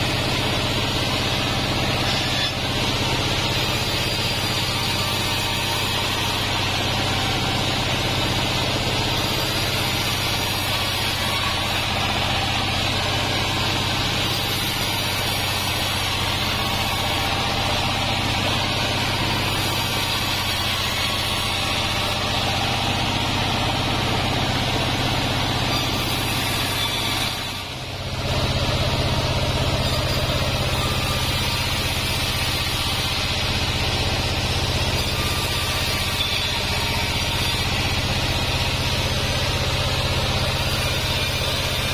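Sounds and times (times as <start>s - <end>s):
band sawmill cutting wood: 0.0s - 41.9s.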